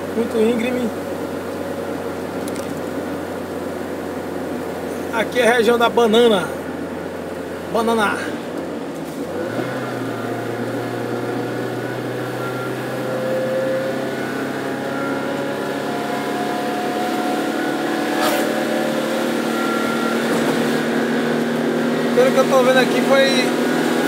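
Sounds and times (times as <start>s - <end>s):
car engine running: 0.0s - 24.0s
tyre and road noise: 0.0s - 24.0s.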